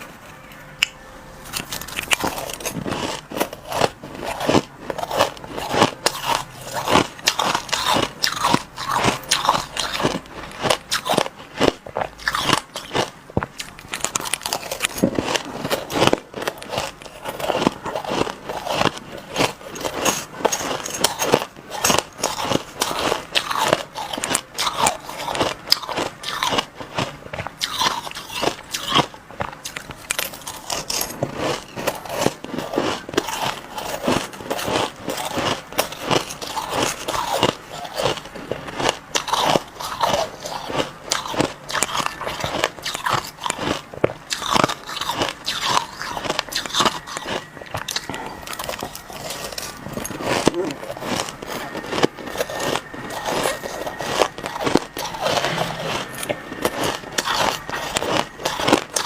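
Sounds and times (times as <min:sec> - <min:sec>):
crushed ice chewing crunches: 0:01.4 - 0:59.0.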